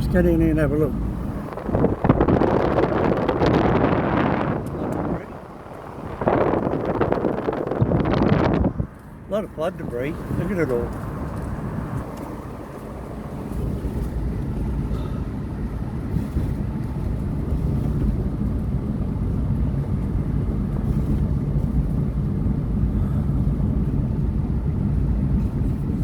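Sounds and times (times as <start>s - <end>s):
car engine and road drone: 0.0s - 26.0s.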